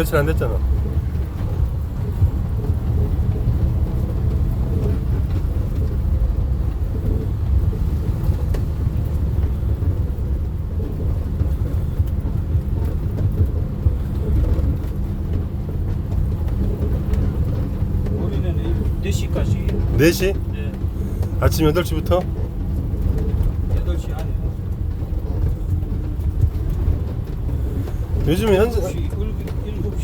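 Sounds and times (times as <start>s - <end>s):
road noise: 0.0s - 30.0s
vehicle engine hum: 0.0s - 30.0s.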